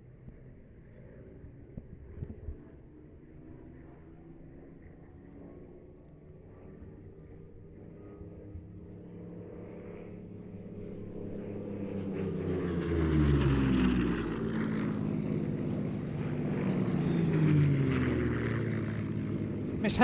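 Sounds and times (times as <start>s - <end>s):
piston aircraft engines passing: 0.0s - 20.0s.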